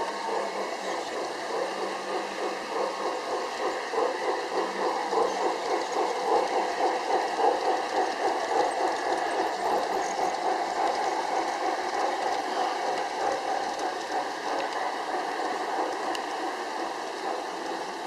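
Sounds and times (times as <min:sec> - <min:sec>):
model train running: 0:00.0 - 0:18.0.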